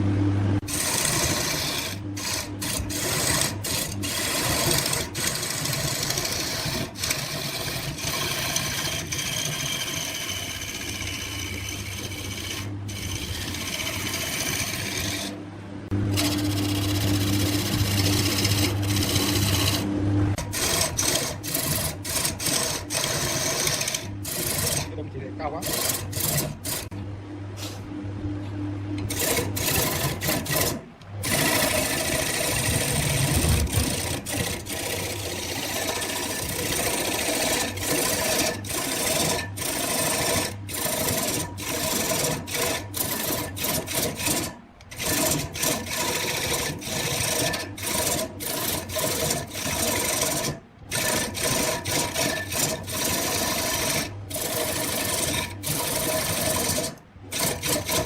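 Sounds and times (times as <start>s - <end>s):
lathe motor hum: 0.0s - 27.0s, 28.9s - 58.0s
turning tool scraping wood: 0.6s - 15.4s, 16.1s - 27.0s, 29.0s - 58.0s.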